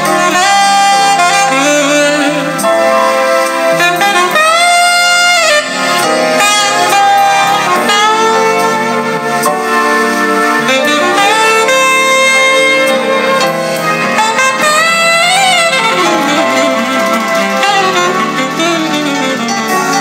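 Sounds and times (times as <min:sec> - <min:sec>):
saxophone jazz from cassette: 0:00.0 - 0:20.0.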